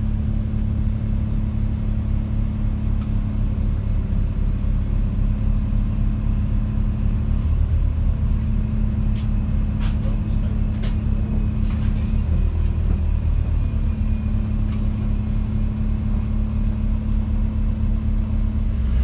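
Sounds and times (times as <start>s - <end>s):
diesel railcar engine drone: 0.0s - 19.0s.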